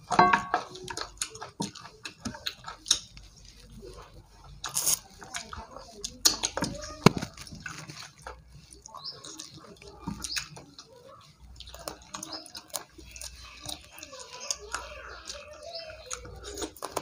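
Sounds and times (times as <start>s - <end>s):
chewing and lip smacking: 0.0s - 17.0s.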